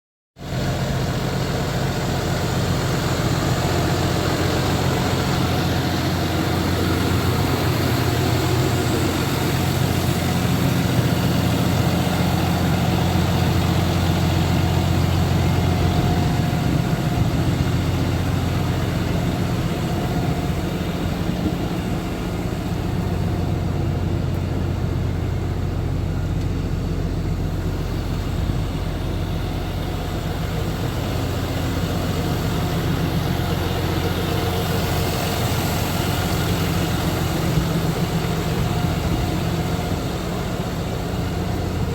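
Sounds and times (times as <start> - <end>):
diesel truck engine idling: 0.4 - 41.9.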